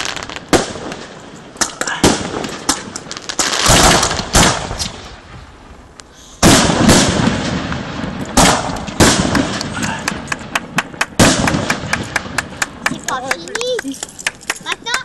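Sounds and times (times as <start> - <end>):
firework shells bursting: 0.0 - 5.3, 6.0 - 15.0
dense run of firework pops: 0.0 - 5.4, 6.0 - 15.0.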